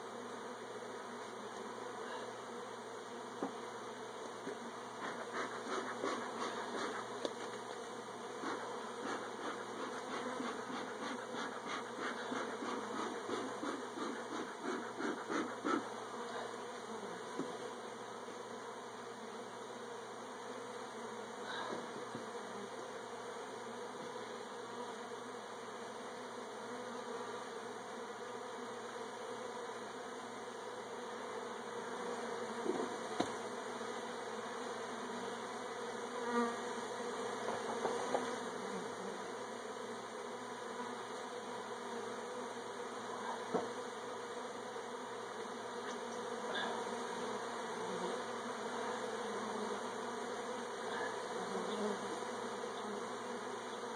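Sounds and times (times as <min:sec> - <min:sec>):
honeybees buzzing: 0:00.0 - 0:53.9.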